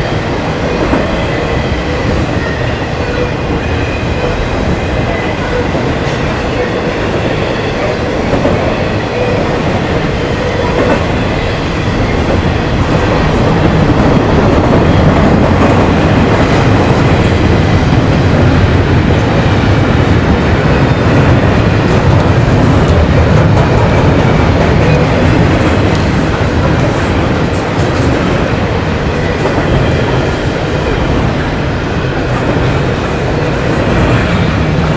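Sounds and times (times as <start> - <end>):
train rolling on rails: 0.0 - 34.9.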